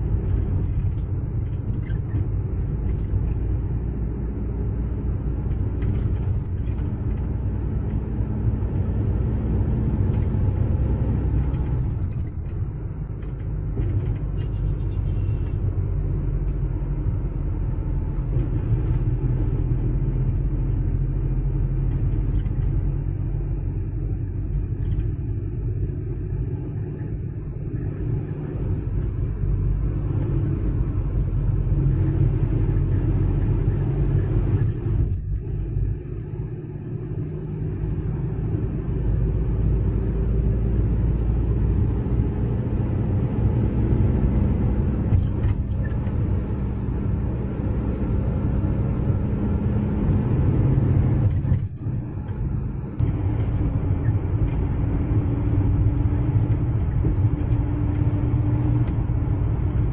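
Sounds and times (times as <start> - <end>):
bus road rumble: 0.0 - 59.9.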